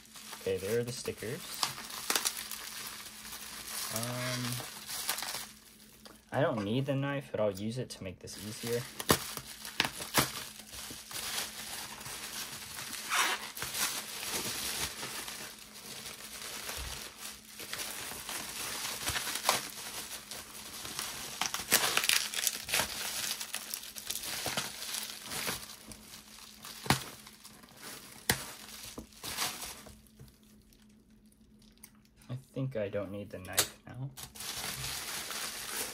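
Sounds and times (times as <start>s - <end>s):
bubble wrap crinkling: 0.0s - 6.8s, 8.2s - 32.2s, 34.2s - 35.9s.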